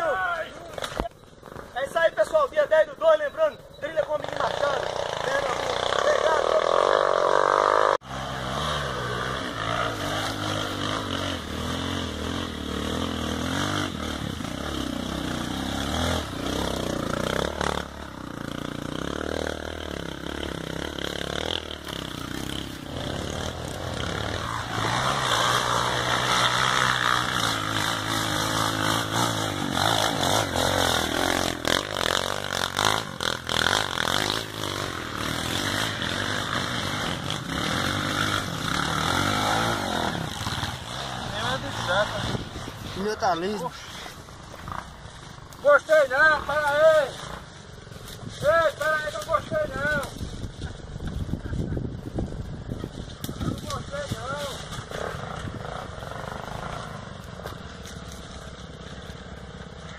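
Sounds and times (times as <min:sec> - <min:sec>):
dirt bike engine revving: 0:03.8 - 0:59.9.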